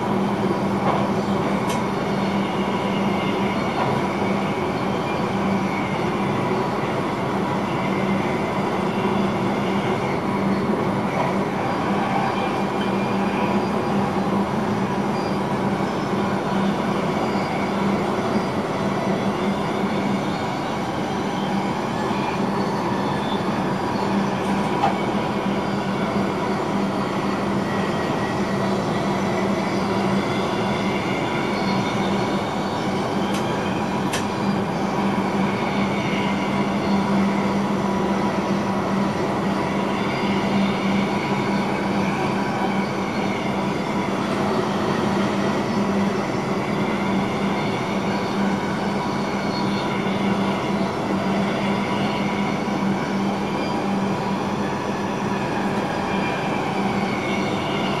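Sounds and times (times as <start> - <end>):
train running at speed: 0.0 - 58.0.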